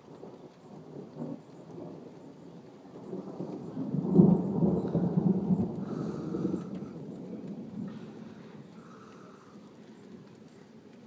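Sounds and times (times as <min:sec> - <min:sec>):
rolling thunder: 0:00.2 - 0:10.2.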